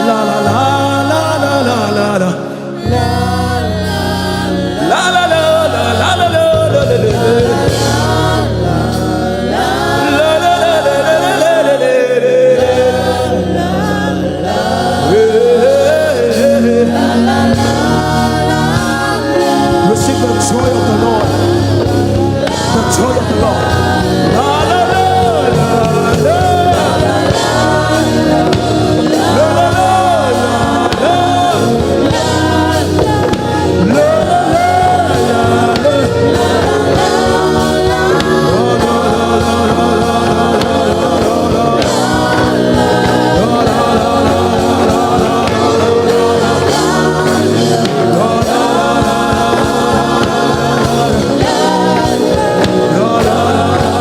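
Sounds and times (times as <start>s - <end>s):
band with bass and percussion: 0.0s - 54.0s
choir and leader singing: 0.0s - 54.0s.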